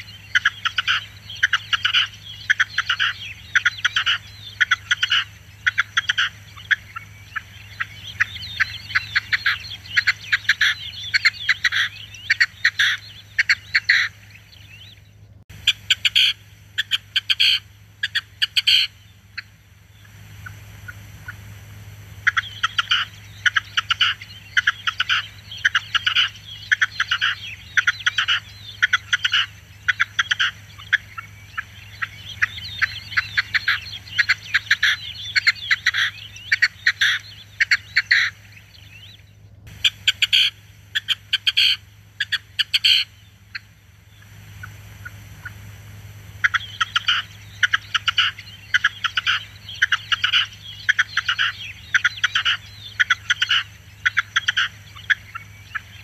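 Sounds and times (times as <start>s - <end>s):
partridge calling: 0.0s - 56.0s.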